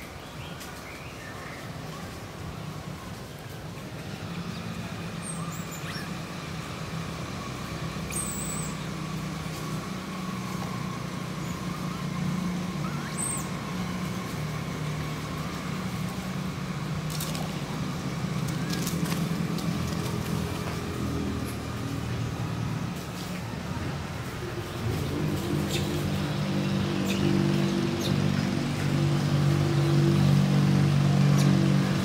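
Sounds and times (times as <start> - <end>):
vehicle engine drone: 0.0 - 32.0.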